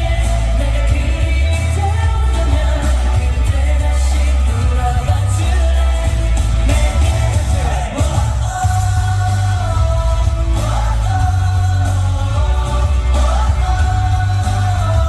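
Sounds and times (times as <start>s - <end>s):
live pop song with singing: 0.0s - 15.0s.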